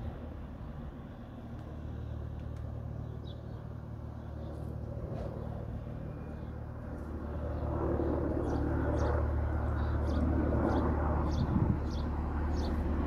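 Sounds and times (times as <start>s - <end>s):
helicopter rotor drone: 0.0s - 13.0s.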